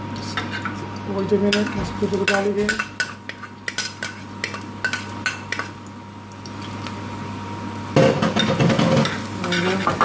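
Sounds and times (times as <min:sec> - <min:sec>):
garlic sizzling in a frying pan: 0:00.4 - 0:10.0.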